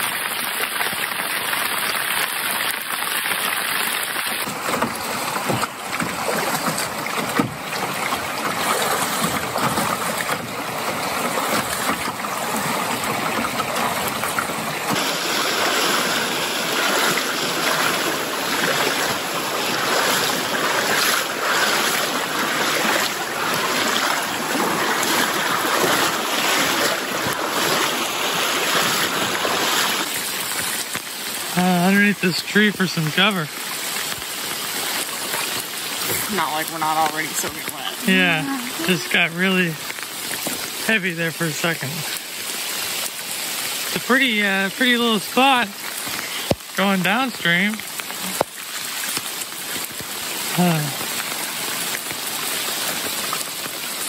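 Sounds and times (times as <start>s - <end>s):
heavy rain on lake surface: 0.0s - 54.0s
river rapids rushing: 0.0s - 54.0s.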